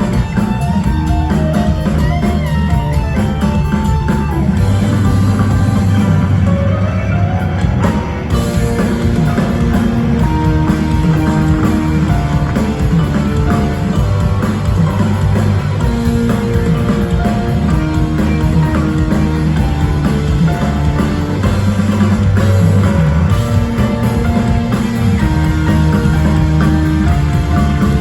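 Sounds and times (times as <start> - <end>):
instrumental rock band: 0.0 - 28.0.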